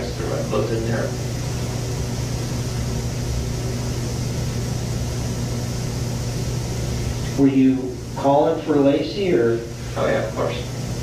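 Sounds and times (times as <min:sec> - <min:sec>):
constant hiss: 0:00.0 - 0:11.0
steady low hum: 0:00.0 - 0:11.0.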